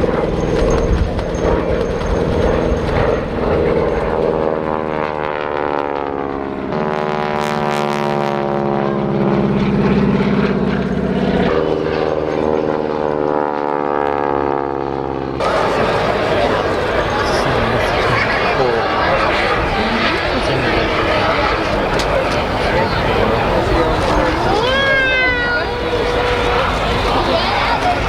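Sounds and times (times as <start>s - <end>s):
propeller aircraft engine droning: 0.0s - 28.0s.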